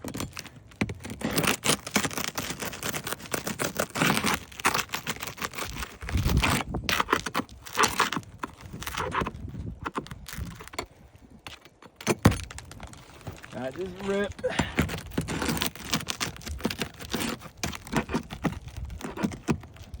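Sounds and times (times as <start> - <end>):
pry bar scraping under shingles: 0.0 - 20.0
shingle crackling as it tears: 0.0 - 20.0.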